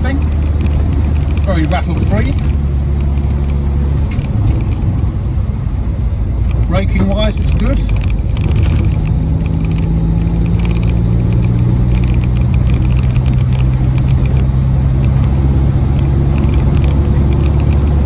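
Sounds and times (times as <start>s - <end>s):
window rattles and ticks: 0.0s - 4.9s, 6.5s - 18.0s
car engine running: 0.0s - 18.0s
tyre and road noise: 0.0s - 18.0s.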